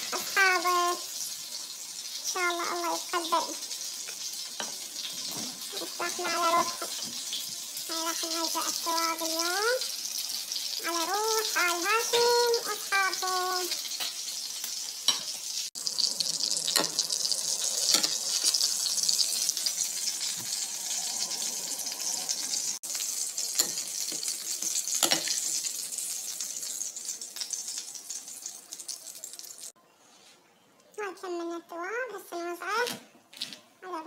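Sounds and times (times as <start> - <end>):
cooking hiss: 0.0 - 29.8.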